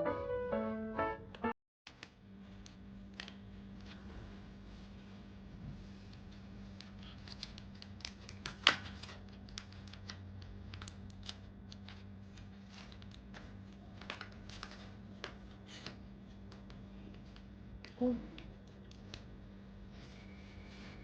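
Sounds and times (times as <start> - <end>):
steady low hum: 2.1 - 21.0.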